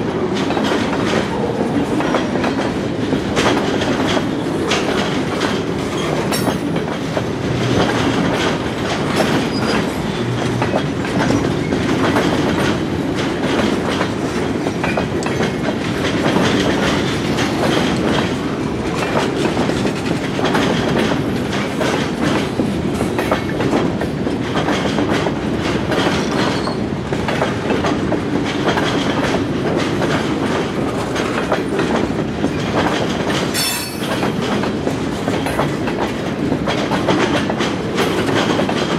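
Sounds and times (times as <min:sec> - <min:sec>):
train wheels clickety-clack: 0:00.0 - 0:38.9.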